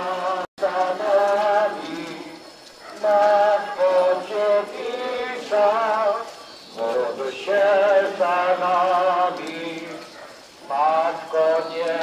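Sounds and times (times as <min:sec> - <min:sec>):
person singing hymn with vibrato: 0:00.0 - 0:12.0.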